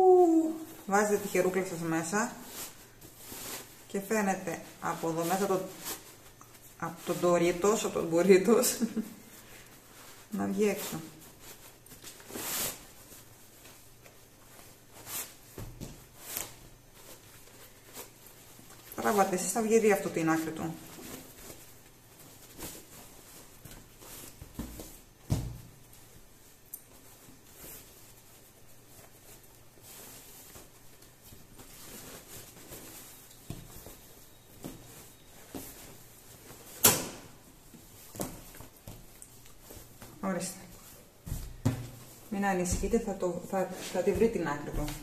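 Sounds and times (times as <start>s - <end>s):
soft fabric swishes: 0.0s - 45.0s
fabric rustling and sliding: 0.1s - 45.0s.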